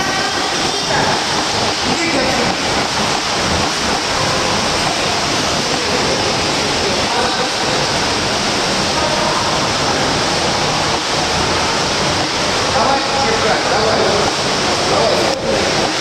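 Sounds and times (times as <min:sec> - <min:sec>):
indistinct voices: 0:00.0 - 0:16.0.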